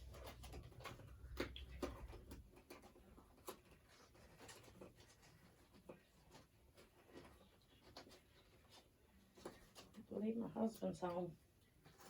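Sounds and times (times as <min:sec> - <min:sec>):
packaging clicks and rustles: 0:00.0 - 0:10.1.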